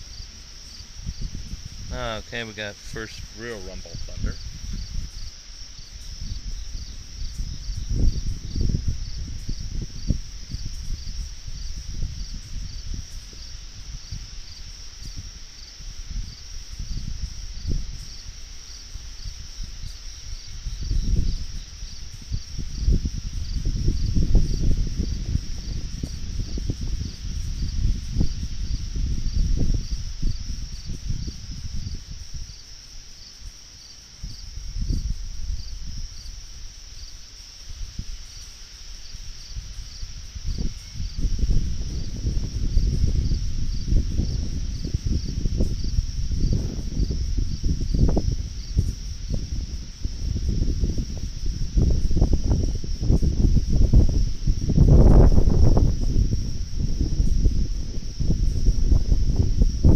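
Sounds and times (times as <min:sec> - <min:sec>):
night insects chirping: 0:00.0 - 0:59.9.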